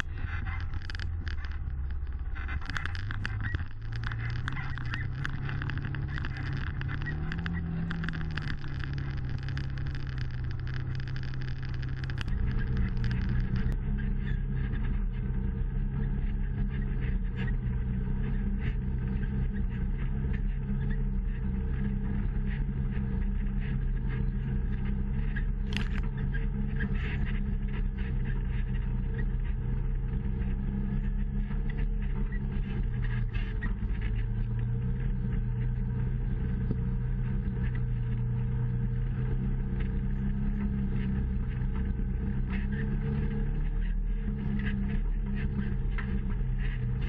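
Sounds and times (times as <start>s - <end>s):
utv engine running: 0.0s - 47.0s.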